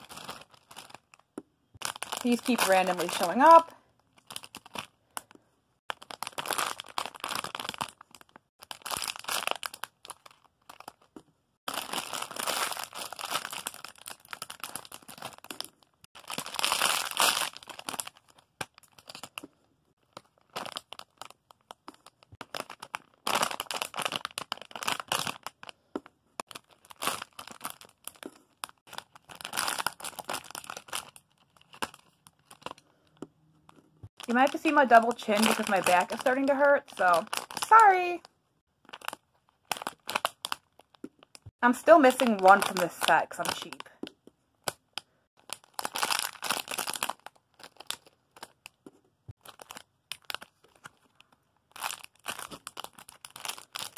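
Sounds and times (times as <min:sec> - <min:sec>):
plastic packaging crinkling: 0:00.0 - 0:32.8, 0:34.1 - 0:38.1, 0:38.8 - 0:43.9, 0:45.4 - 0:53.9.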